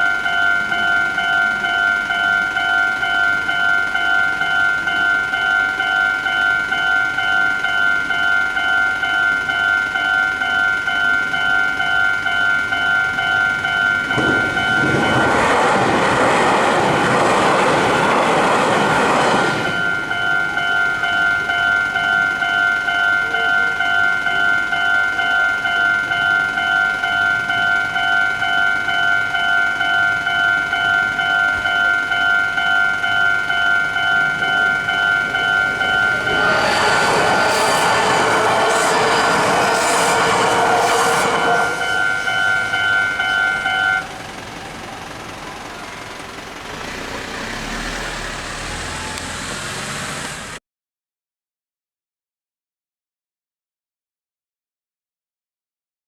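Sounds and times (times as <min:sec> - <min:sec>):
level-crossing bell dinging: 0:00.0 - 0:16.0, 0:16.7 - 0:48.0
train rushing past: 0:00.0 - 0:23.2, 0:23.8 - 0:50.6.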